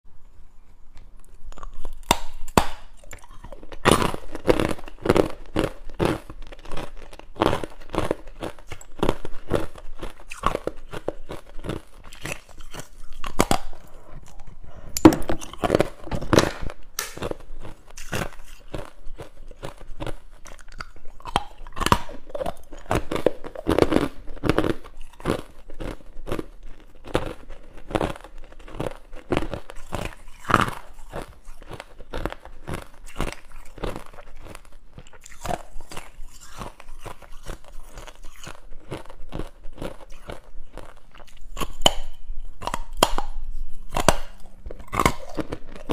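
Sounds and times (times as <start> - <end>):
ice crunching between teeth: 1.4 - 45.9.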